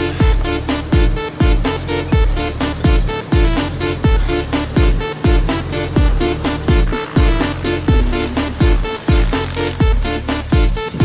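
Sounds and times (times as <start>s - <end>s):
electronic dance music: 0.0s - 11.0s
heavy kick drum: 0.2s - 11.0s.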